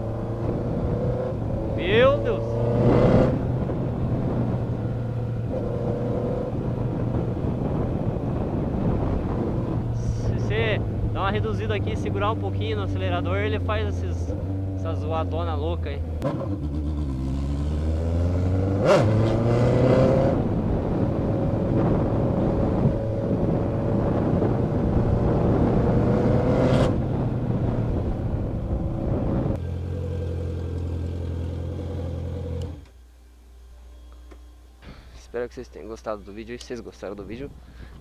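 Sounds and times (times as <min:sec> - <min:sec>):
exhaust cracks: 0:00.0 - 0:33.0
motorcycle engine revving: 0:00.0 - 0:33.0.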